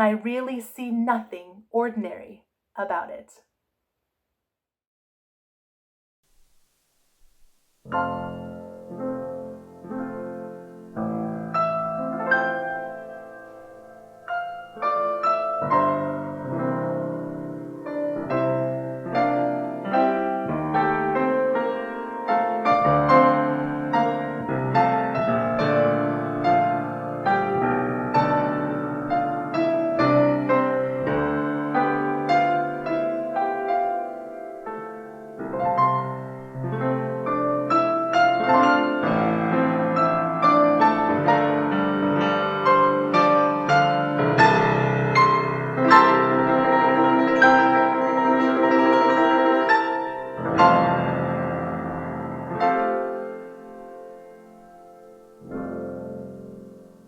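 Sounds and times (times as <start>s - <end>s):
gentle solo piano: 7.8s - 57.0s.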